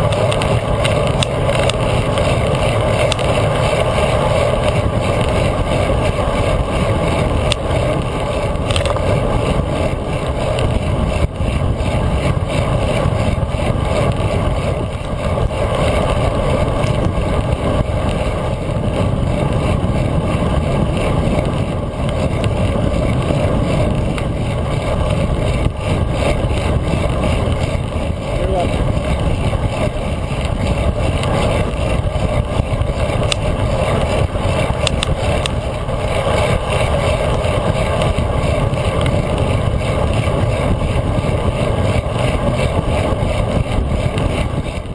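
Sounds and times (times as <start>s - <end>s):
bike road rumble: 0.0s - 44.9s
wind rush: 0.0s - 44.9s.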